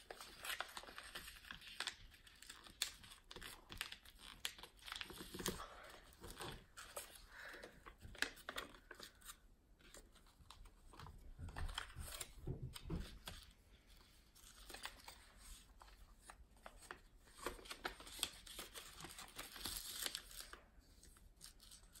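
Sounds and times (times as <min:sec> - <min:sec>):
paper rustling and crinkling: 0:00.0 - 0:22.0.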